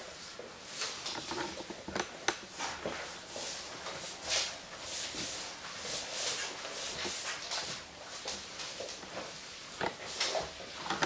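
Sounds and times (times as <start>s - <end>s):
mop swishing across floor: 0.0s - 11.0s.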